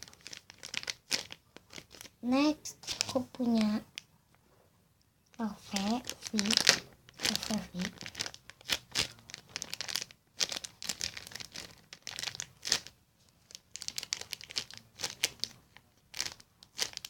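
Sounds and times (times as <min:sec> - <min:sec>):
squishy crinkling and rustling: 0:00.0 - 0:04.6, 0:05.3 - 0:17.0.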